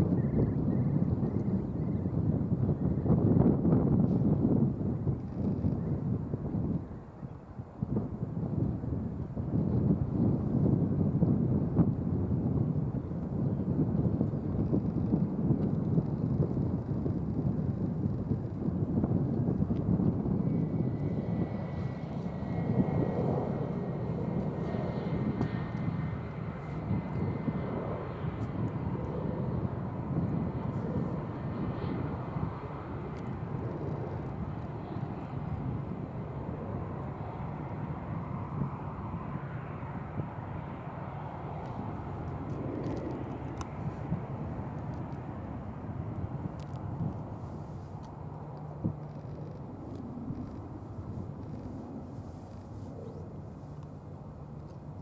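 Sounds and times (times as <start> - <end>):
jet engines rumbling: 0.0 - 55.0
wind buffeting microphone: 0.0 - 55.0.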